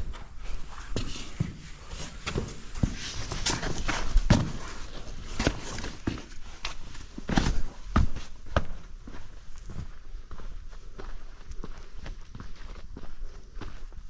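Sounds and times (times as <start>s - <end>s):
footsteps on stone: 0.0s - 14.0s.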